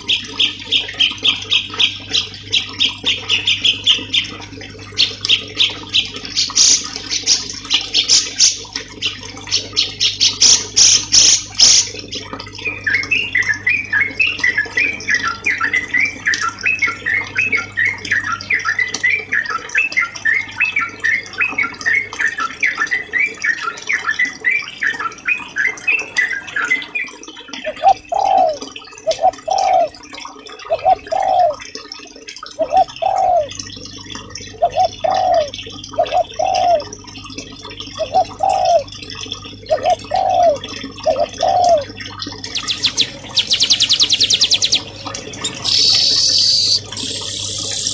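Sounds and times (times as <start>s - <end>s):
recorded songbird song: 0.0s - 4.4s, 5.0s - 30.0s, 30.7s - 31.6s, 32.6s - 33.5s, 34.6s - 36.9s, 38.0s - 38.9s, 39.7s - 47.9s
low background hum: 0.0s - 47.9s.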